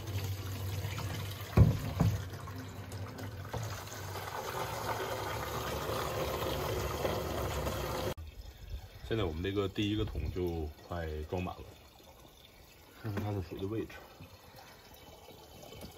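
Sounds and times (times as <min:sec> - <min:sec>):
water running into container: 0:00.0 - 0:15.9.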